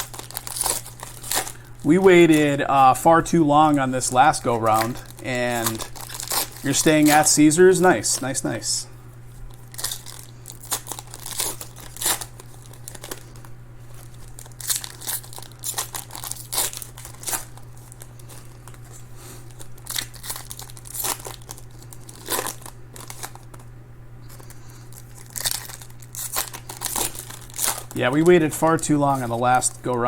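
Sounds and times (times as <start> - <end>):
card pack wrappers crinkling: 0.0 - 30.0
steady low hum: 0.0 - 30.0.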